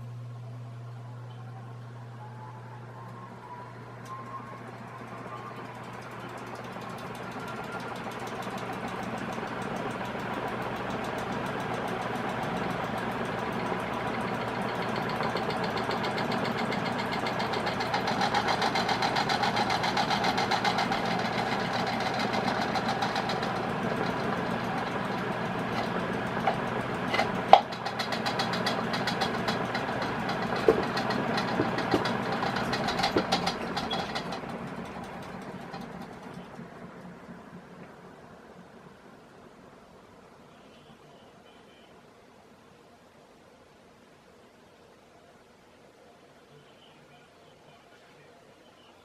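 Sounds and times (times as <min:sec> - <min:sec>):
ceiling fan motor hum: 0:00.0 - 0:49.0.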